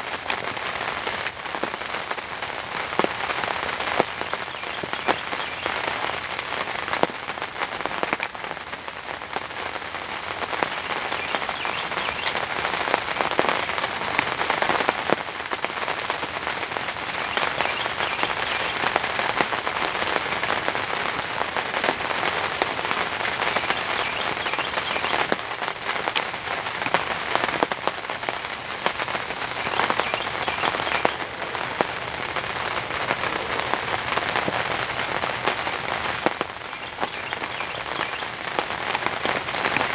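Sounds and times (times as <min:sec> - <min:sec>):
raindrops ticking close by: 0:00.0 - 0:39.9
steady rain: 0:00.0 - 0:39.9.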